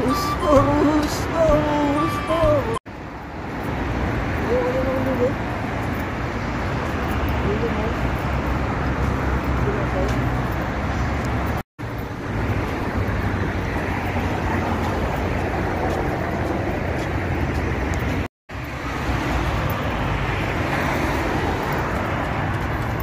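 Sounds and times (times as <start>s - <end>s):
cars passing by: 0.0s - 23.0s.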